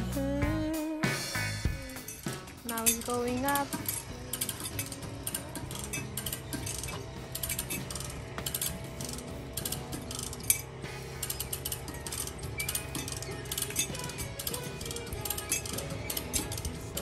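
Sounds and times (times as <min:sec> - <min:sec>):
ratcheting hand hoist clicking: 0:02.1 - 0:17.0.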